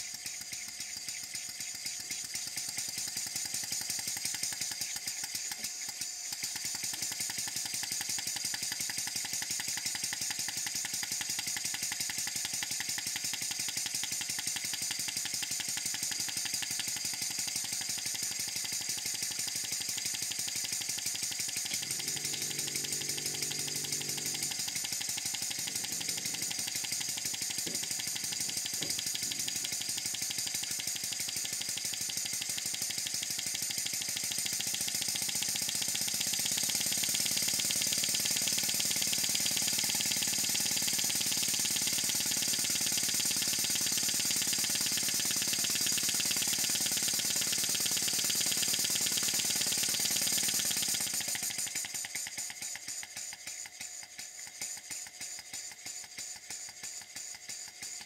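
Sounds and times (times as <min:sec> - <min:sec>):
model steam engine chuffing: 0:00.0 - 0:58.0.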